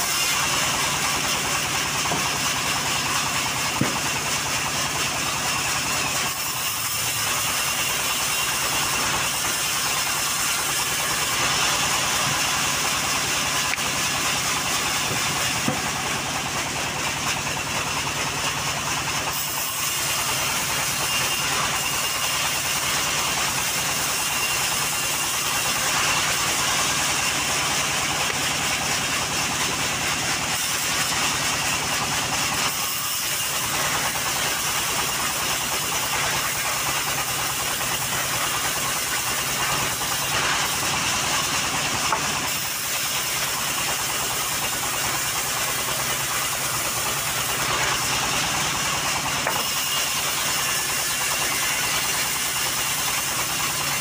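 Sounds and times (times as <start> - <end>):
band saw blade cutting log: 0.0 - 54.0
sawmill engine hum: 0.0 - 54.0.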